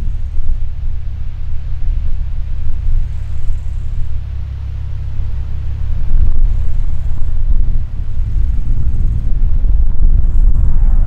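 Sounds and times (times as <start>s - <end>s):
distant piston aircraft engines rumbling: 0.0s - 11.0s
wind on microphone: 0.0s - 11.0s.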